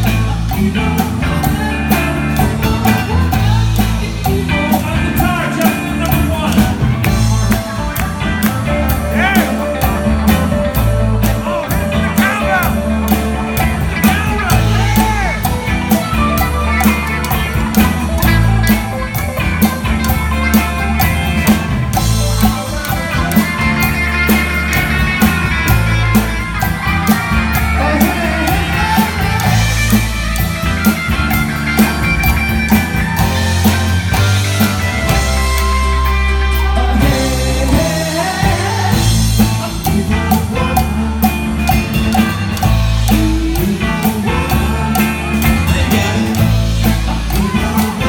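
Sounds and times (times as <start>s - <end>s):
rock song with singing: 0.0s - 48.0s.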